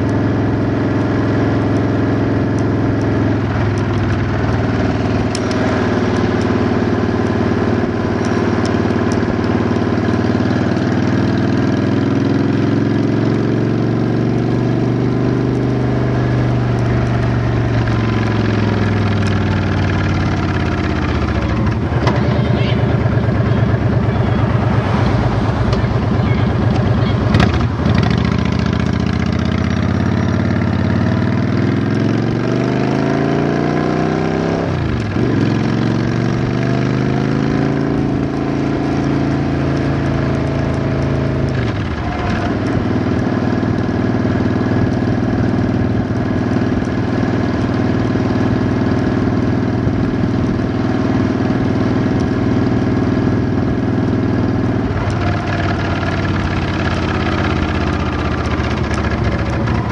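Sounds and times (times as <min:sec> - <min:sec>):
vehicle engine accelerating: 0:00.0 - 0:59.9.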